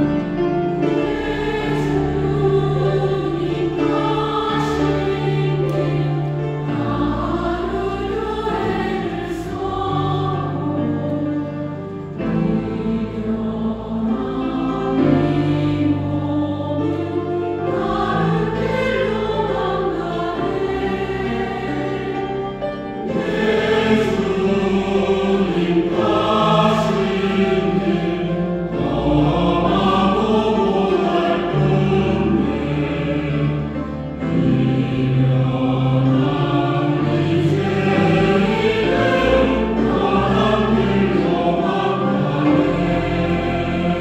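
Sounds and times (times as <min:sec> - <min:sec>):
choir singing a hymn: 0:00.0 - 0:44.0
instrumental accompaniment: 0:00.0 - 0:44.0.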